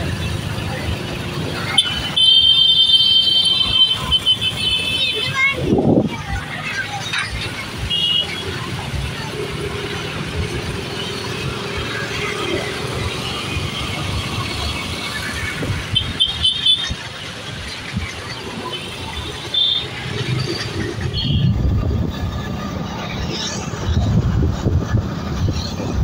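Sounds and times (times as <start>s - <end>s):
vehicle running noise: 0.0s - 26.0s.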